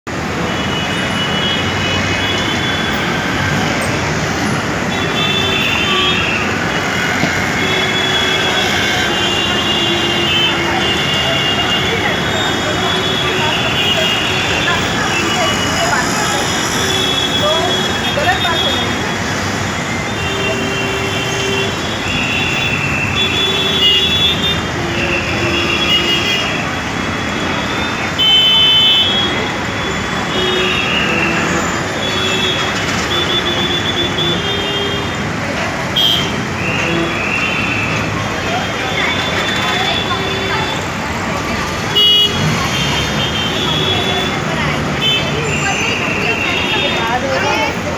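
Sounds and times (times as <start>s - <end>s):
dense road traffic: 0.0s - 47.9s
vehicle horns honking: 0.4s - 47.8s.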